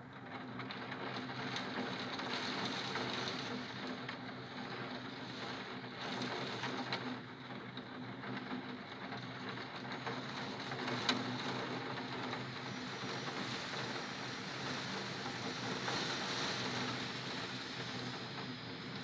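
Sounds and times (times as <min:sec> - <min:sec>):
heavy rain on window glass: 0:00.0 - 0:19.0.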